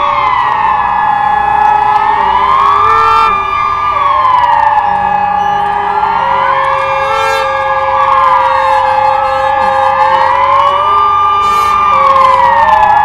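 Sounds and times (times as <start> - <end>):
civil defence siren wailing: 0.0 - 13.0.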